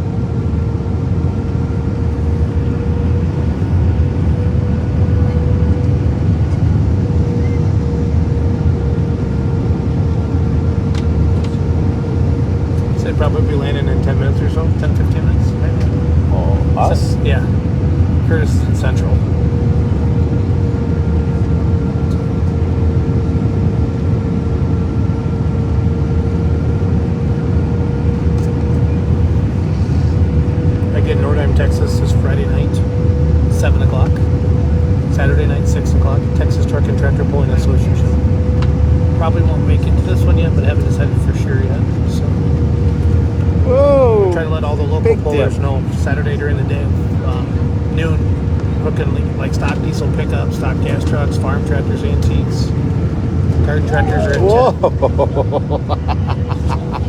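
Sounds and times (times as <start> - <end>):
constant hum: 0.0 - 57.0
engine rumble and rushing air: 0.0 - 57.0.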